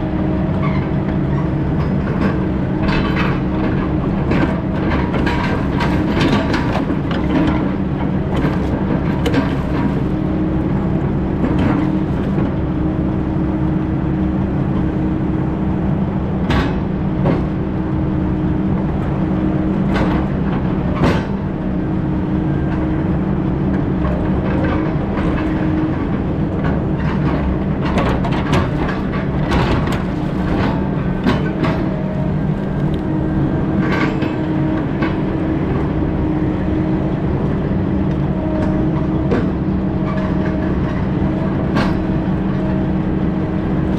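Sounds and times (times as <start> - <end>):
heavy diesel machine running: 0.0 - 43.9.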